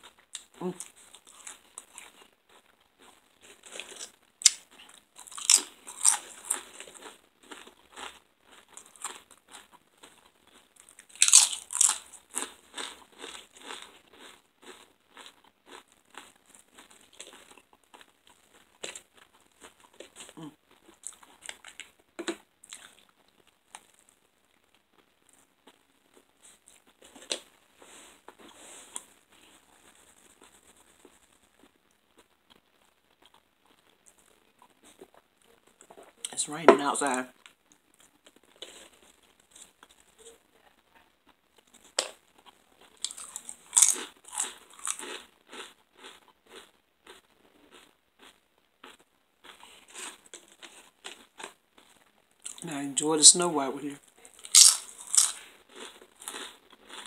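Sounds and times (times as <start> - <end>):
person chewing crunchy food: 0.0 - 40.2, 41.4 - 52.8, 53.9 - 57.0.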